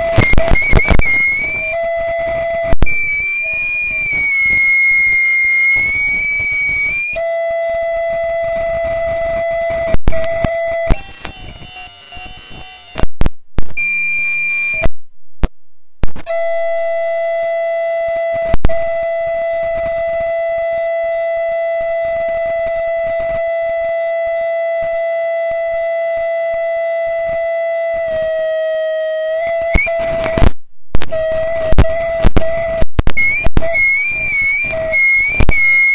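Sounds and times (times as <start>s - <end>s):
high-pitched feedback howl: 0.0s - 13.1s, 13.8s - 14.9s, 16.3s - 30.5s, 31.1s - 35.9s.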